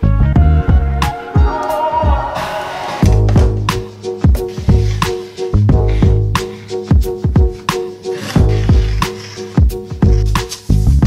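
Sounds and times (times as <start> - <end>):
bass: 0.0 - 11.0.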